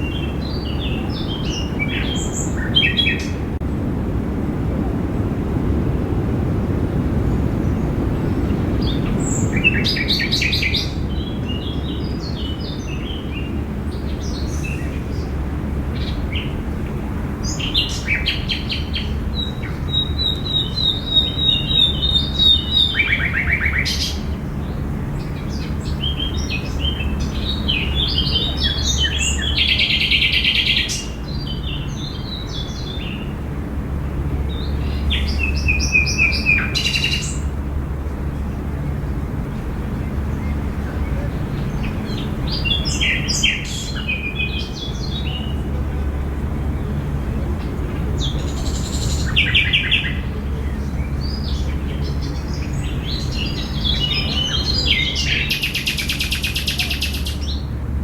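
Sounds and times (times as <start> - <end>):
low background rumble: 0.0 - 58.0
songbirds chirping and trilling: 0.0 - 58.0.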